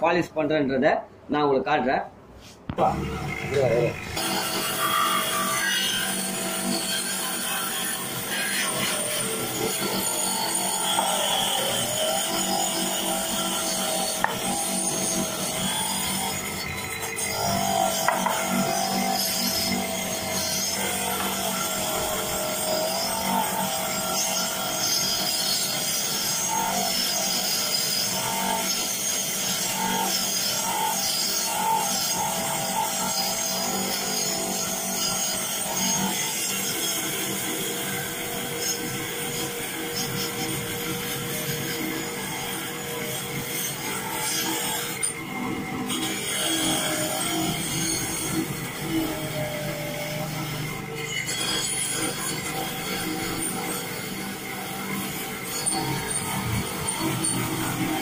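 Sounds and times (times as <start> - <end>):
bench grinder polishing metal: 2.4 - 58.0.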